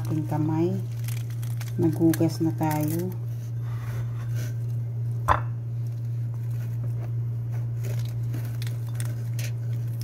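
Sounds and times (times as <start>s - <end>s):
pomegranate rind squishing and crackling: 0.0s - 3.6s, 4.5s - 10.0s
steady low hum: 0.0s - 10.0s.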